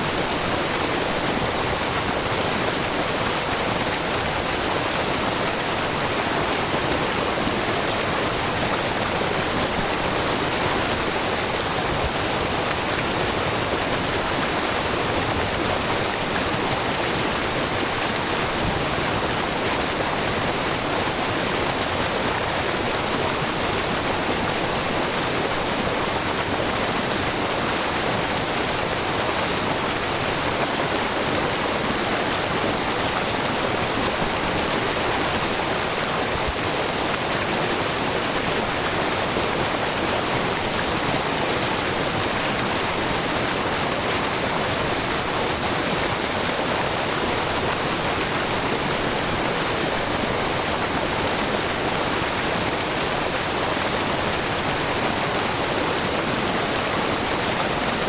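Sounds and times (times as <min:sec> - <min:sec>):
brook babbling: 0:00.0 - 0:58.0
waterfall onto rocks: 0:00.0 - 0:58.0.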